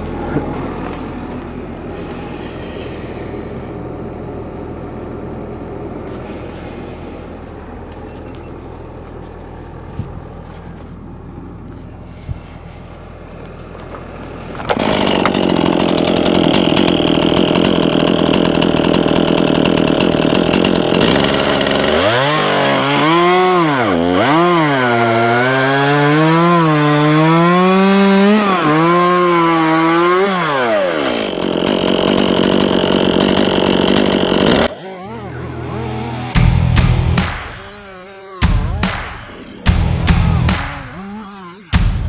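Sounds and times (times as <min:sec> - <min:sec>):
chainsaw cutting log: 0:00.0 - 0:04.8, 0:05.6 - 0:42.0.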